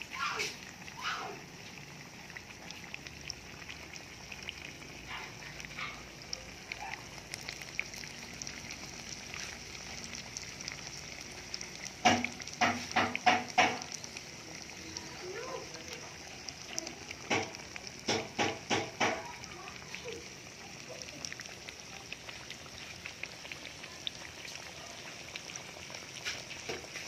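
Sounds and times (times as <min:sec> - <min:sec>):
fritters deep-frying in oil: 0:00.0 - 0:27.0.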